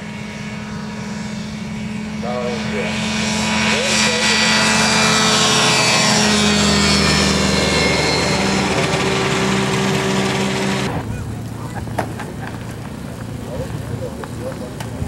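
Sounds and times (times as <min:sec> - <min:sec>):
ultralight aircraft engine passing: 0:00.0 - 0:15.0.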